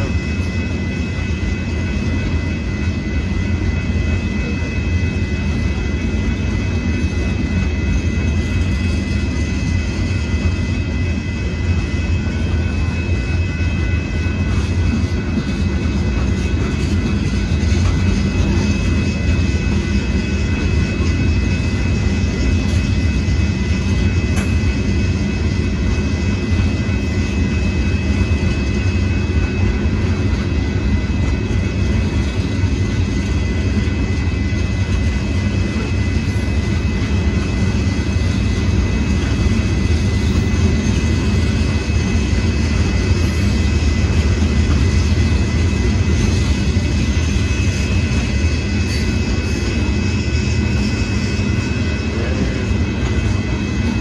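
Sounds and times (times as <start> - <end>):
high-pitched ringing tones: 0.0 - 54.0
train wheels rumbling on rail: 0.0 - 54.0.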